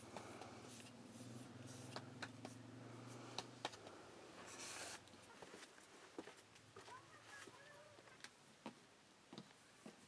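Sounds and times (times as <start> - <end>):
faint low hum: 0.0 - 9.9.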